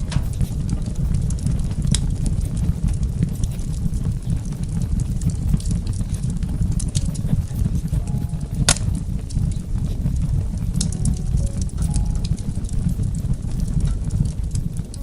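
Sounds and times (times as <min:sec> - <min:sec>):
fire crackling: 0:00.0 - 0:15.0
fire flames rumbling: 0:00.0 - 0:15.0.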